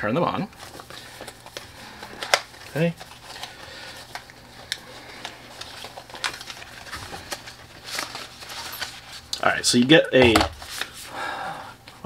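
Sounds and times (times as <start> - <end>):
packaging rustling: 0.5 - 11.1.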